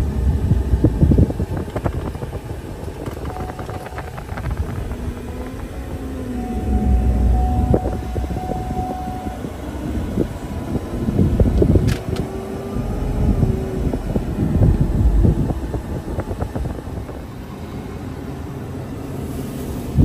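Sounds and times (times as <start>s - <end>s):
engine and road rumble in cab: 0.0s - 20.0s.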